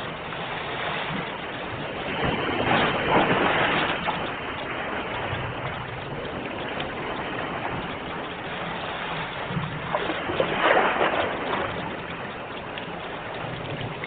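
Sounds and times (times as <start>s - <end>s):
sea waves washing onto shore: 0.0s - 14.0s
wave breaking and splashing: 0.0s - 14.0s.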